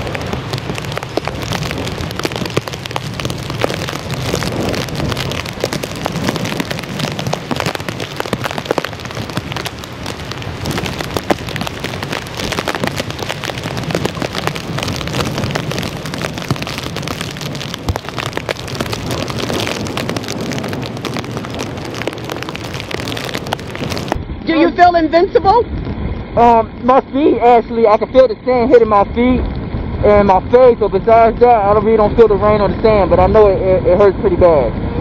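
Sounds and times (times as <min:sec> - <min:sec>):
rain and sand ticking on microphone: 0:00.0 - 0:35.0
wind and driving rain: 0:00.0 - 0:35.0.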